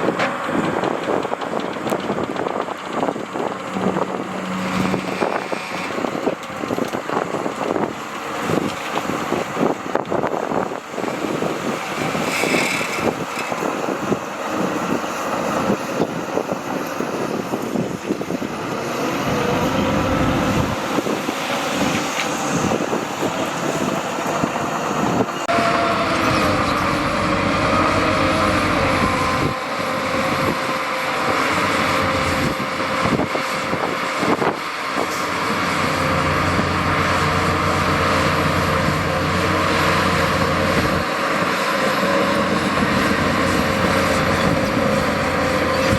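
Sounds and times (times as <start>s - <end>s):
heavy diesel machinery engines: 0.0s - 45.9s.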